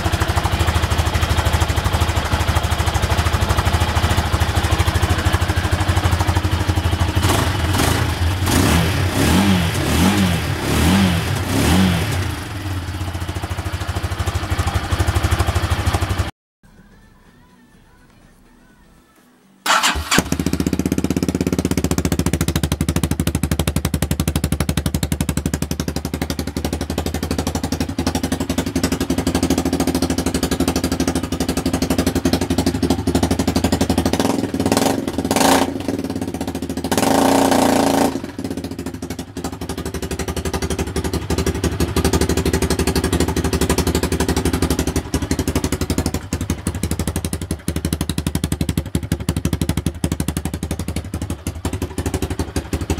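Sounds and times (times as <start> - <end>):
motorcycle engine idling and revving: 0.0 - 16.3, 19.6 - 52.9.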